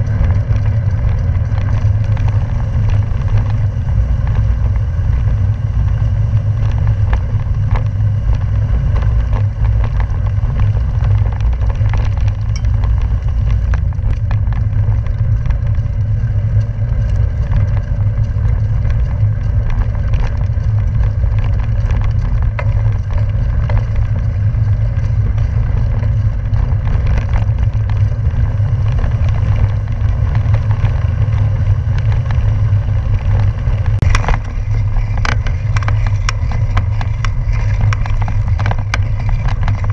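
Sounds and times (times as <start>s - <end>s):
tyres hissing over rough pavement: 0.0s - 39.9s
wind rumble on microphone: 0.0s - 39.9s.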